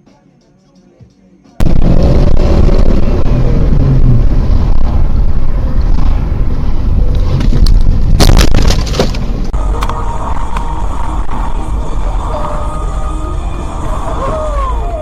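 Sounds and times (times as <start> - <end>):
vehicle driving rumble: 1.6 - 15.0.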